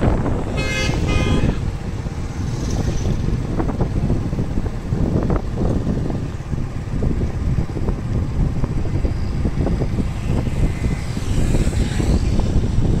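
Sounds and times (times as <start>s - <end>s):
road and engine noise: 0.0s - 13.0s
wind buffeting microphone: 0.0s - 13.0s.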